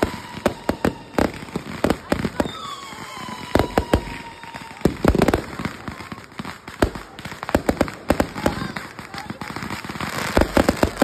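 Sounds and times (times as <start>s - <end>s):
firework whistling: 0.0s - 11.0s
fireworks bangs and pops: 0.0s - 11.0s.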